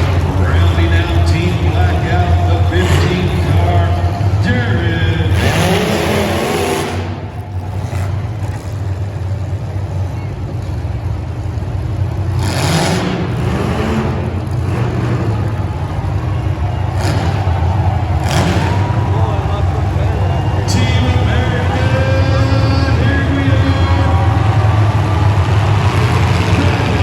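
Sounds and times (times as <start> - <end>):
faint voices: 0.0 - 12.4, 14.1 - 27.0
vehicle engine droning: 0.0 - 27.0.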